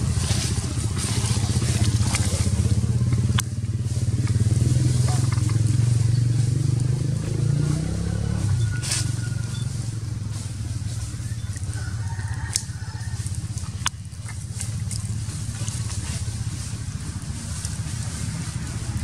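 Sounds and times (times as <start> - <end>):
dry leaves crackling: 0.0 - 19.0
low engine-like rumble: 0.0 - 19.0.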